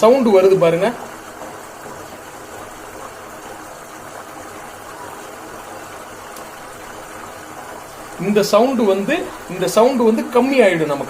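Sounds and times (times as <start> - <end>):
butter hissing and bubbling: 0.0 - 11.0.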